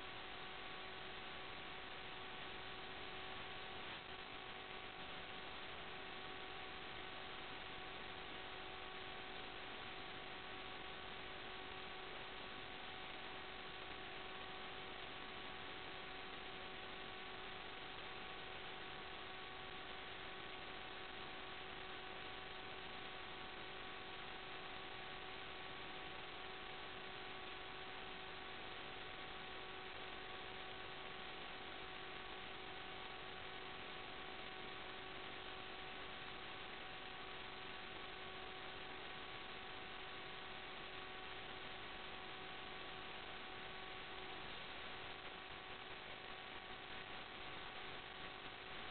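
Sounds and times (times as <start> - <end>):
faint buzz: 0.0 - 48.9
static hiss: 0.0 - 48.9.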